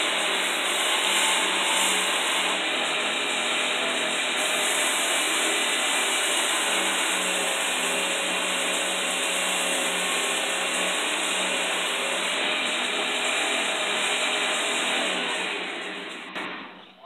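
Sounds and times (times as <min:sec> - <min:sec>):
belt grinder grinding steel: 0:00.0 - 0:16.5.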